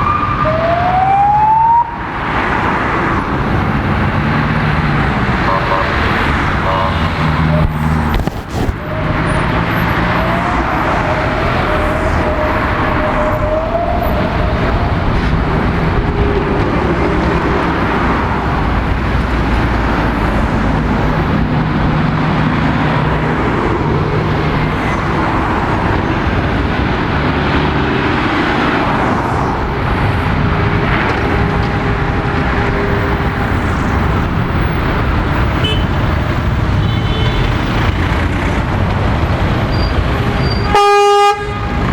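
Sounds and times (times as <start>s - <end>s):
passing vehicles: 0.0s - 41.9s.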